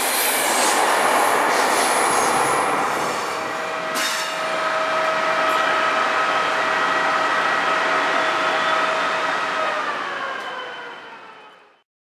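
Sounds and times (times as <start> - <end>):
train running on rails: 0.0 - 11.8.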